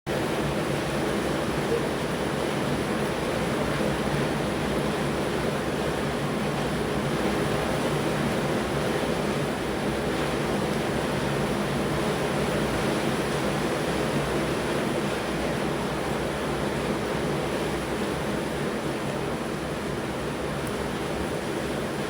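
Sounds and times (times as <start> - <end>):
rain falling: 0.1 - 22.0.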